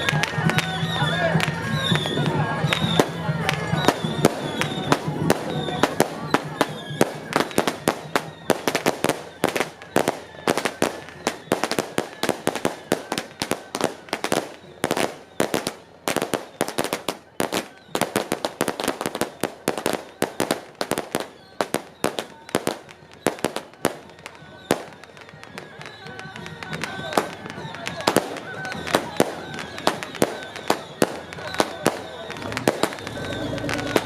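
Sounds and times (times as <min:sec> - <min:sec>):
firecrackers banging: 0:00.0 - 0:34.0.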